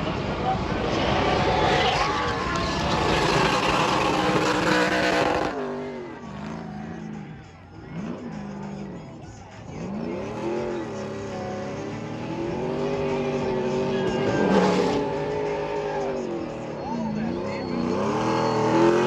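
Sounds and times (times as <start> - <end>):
race truck engines revving: 0.0 - 19.0.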